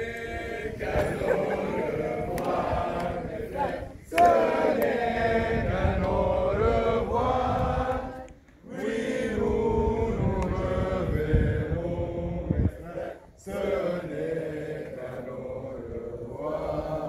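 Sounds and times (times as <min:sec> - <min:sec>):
group chanting in unison: 0:00.0 - 0:17.0.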